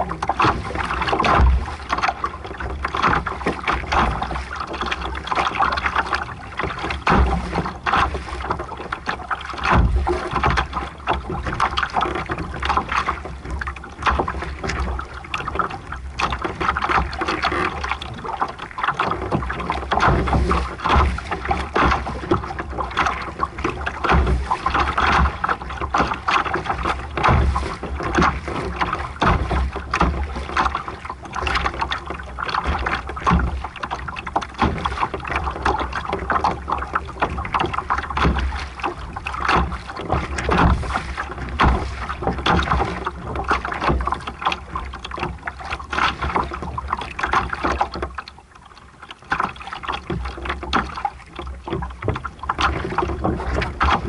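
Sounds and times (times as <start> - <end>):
wind rumbling on microphone: 0.0 - 45.6
water splashing against hull: 0.0 - 54.0.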